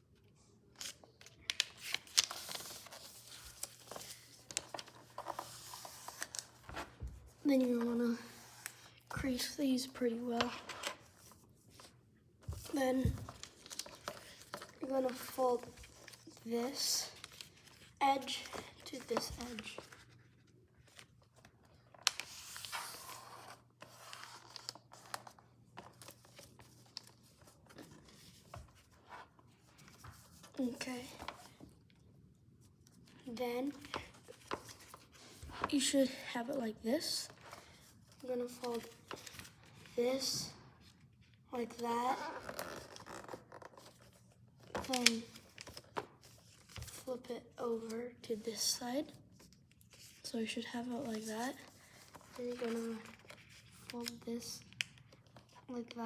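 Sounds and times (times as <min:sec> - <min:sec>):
paper being folded and creased: 0:00.2 - 0:32.0, 0:32.6 - 0:36.2, 0:36.9 - 0:56.0.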